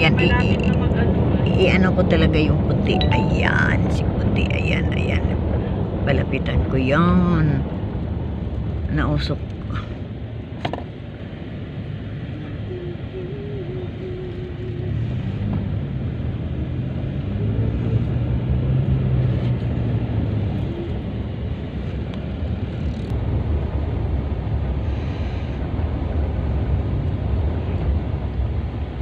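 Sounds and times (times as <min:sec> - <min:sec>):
faint engine hum: 0:00.0 - 0:29.0
vehicle road noise rumble: 0:00.0 - 0:29.0.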